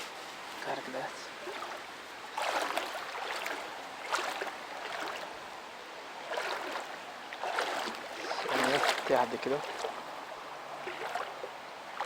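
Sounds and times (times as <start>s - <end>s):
stream water rushing: 0.3s - 12.0s
water splashing: 1.4s - 5.5s, 6.2s - 12.0s.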